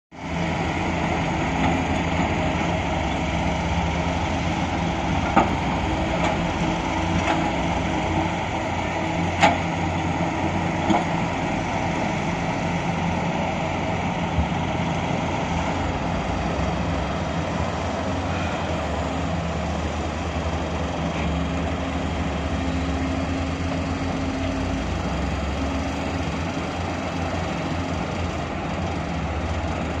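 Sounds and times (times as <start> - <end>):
heavy diesel machinery engine drone: 0.1 - 30.0.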